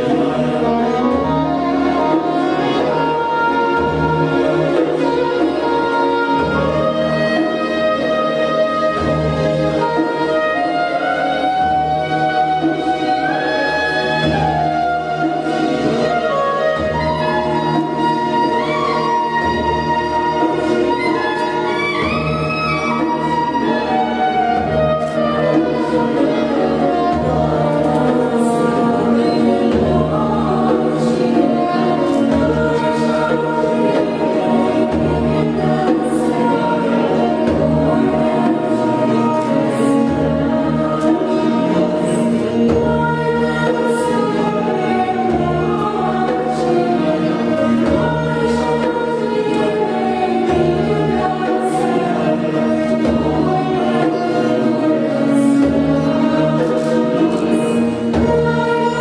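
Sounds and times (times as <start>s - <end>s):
choir singing slow melody: 0.0s - 59.0s
orchestral strings: 0.0s - 59.0s.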